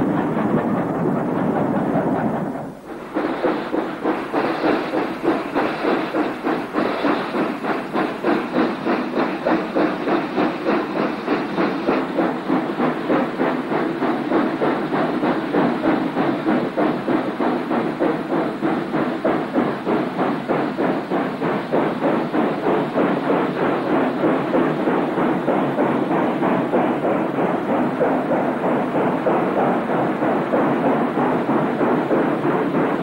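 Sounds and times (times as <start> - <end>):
steam locomotive chuffing: 0.0 - 33.0.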